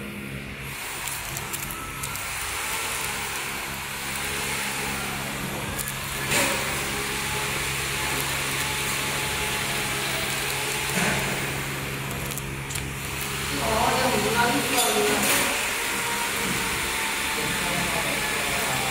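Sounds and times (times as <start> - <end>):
packaging machine humming and hissing: 0.0 - 18.9.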